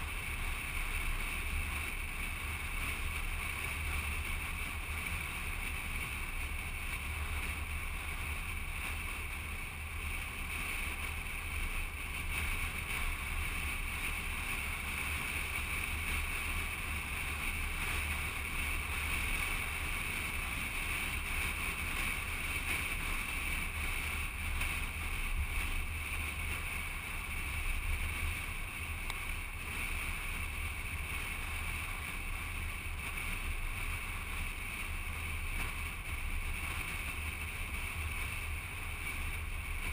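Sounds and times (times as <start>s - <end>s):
car low rumble: 0.0s - 39.9s
tyre noise on paved road: 0.0s - 39.9s.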